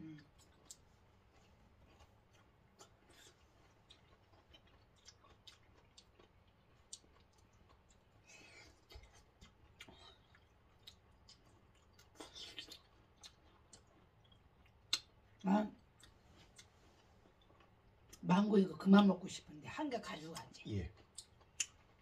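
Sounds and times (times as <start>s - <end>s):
soft chewing: 0.0s - 18.4s, 20.0s - 22.0s.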